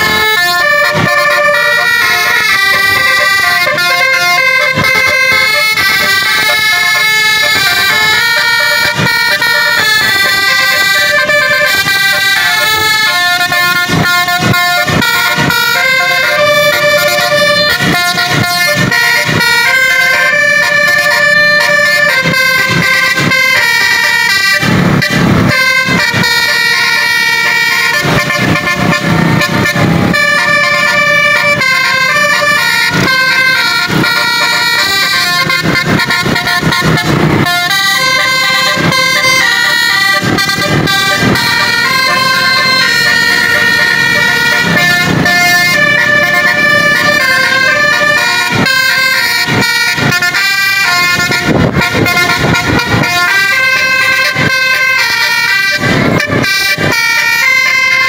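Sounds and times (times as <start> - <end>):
musical air horn melody: 0.0 - 58.0.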